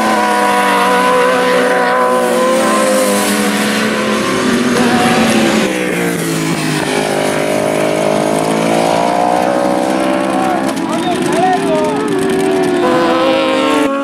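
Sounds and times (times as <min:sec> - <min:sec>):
motorcycle passing by: 0:00.0 - 0:14.0
racing motorcycle engines revving: 0:00.0 - 0:14.0.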